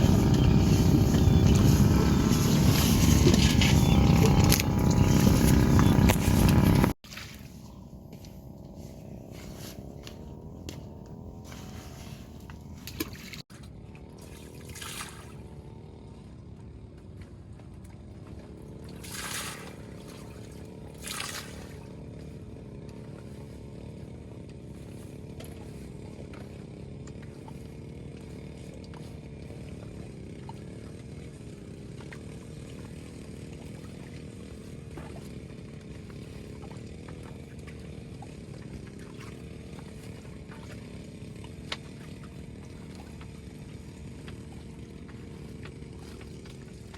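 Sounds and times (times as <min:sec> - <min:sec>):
small boat engine running: 0:00.0 - 0:46.9.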